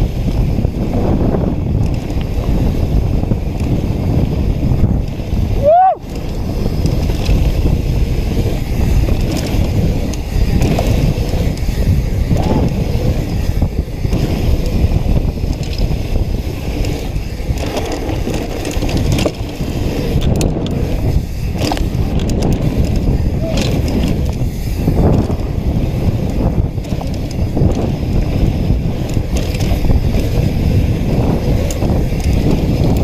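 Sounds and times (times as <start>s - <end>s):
bike rattling and knocking: 0.0s - 33.0s
bike tyres rumbling on dirt: 0.0s - 33.0s
wind on microphone: 0.0s - 33.0s.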